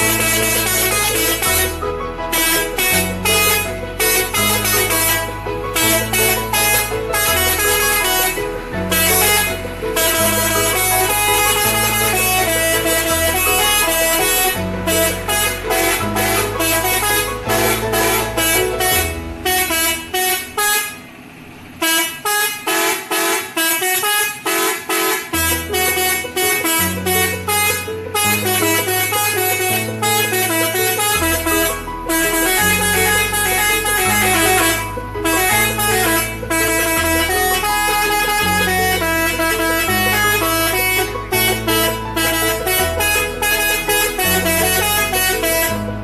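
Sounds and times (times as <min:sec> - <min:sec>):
air horn melody toots: 0:00.0 - 0:46.0
held horn note: 0:00.0 - 0:46.0.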